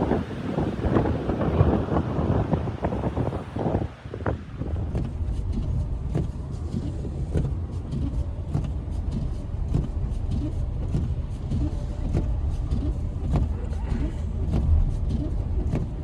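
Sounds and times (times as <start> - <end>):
blizzard wind on microphone: 0.0 - 16.0.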